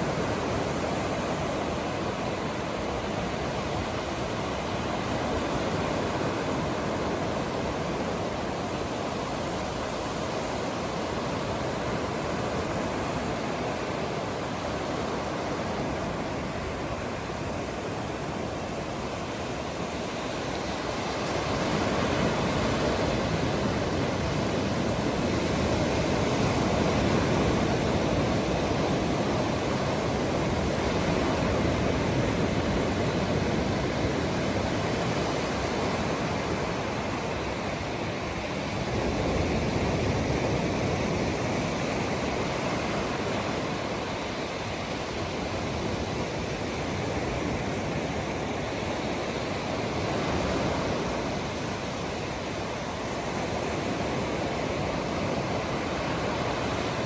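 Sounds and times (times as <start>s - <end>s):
sea surf: 0.0s - 57.0s
wind: 0.0s - 57.0s.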